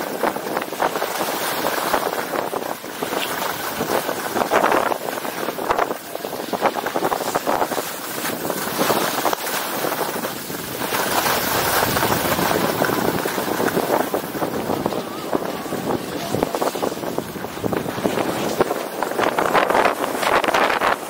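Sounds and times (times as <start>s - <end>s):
skis scraping over snow: 0.0s - 21.0s
wind on microphone: 0.0s - 21.0s.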